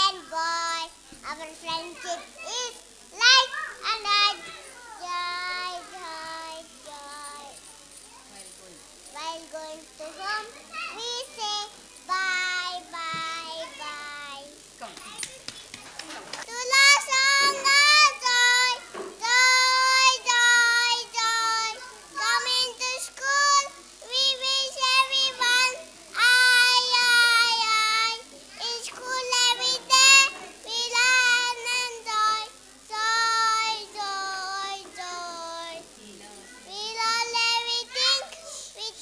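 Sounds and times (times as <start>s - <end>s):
child singing: 0.0s - 7.7s, 9.1s - 15.5s, 16.4s - 39.0s.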